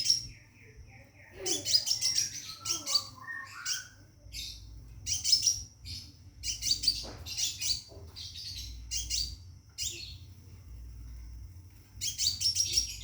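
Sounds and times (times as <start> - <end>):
bird singing high chirps: 0.0 - 10.5, 12.0 - 13.0.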